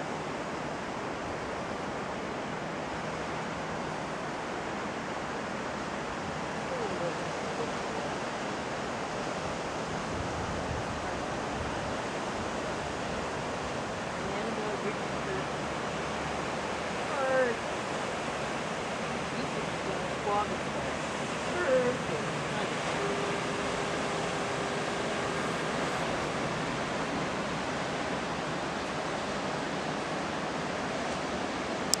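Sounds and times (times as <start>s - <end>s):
ocean surf rushing: 0.0s - 32.0s
wind: 0.0s - 32.0s.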